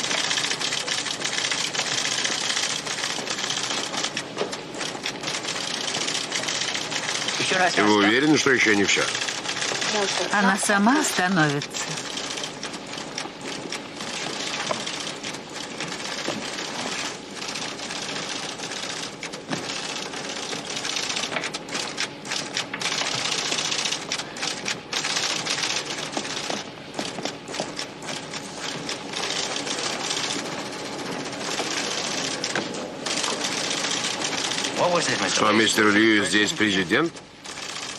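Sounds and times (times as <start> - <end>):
printer chattering: 0.0 - 37.9.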